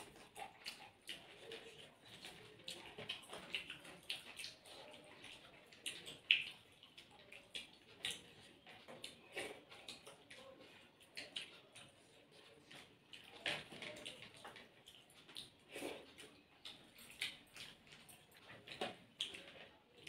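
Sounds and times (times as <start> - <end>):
wet chewing and lip smacks: 0.0 - 20.0.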